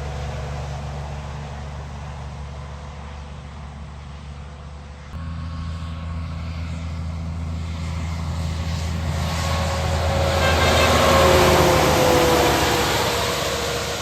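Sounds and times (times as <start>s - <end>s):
heavy truck engine hum: 0.0s - 14.0s
tyre and road noise: 0.0s - 14.0s.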